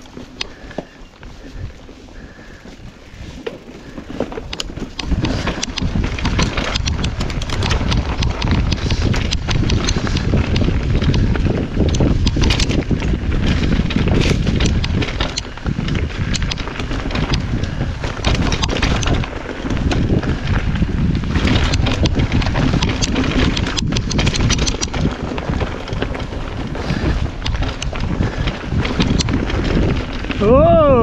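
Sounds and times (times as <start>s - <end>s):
bike clicks and rattles: 0.0s - 31.0s
tyres on dirt trail: 0.0s - 31.0s
wind buffeting microphone: 0.0s - 31.0s.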